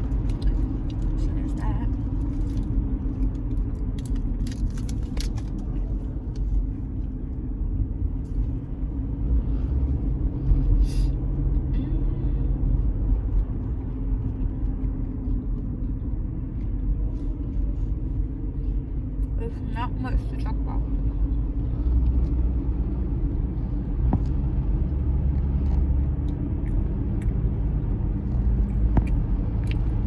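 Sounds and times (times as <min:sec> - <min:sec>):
car road rumble from inside: 0:00.0 - 0:30.0.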